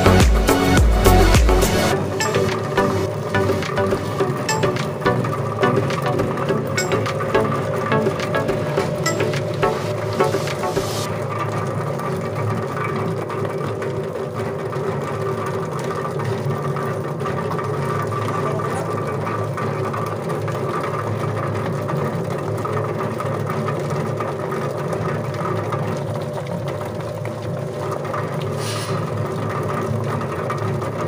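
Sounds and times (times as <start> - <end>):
spinning drum motor hum: 0.0 - 31.0.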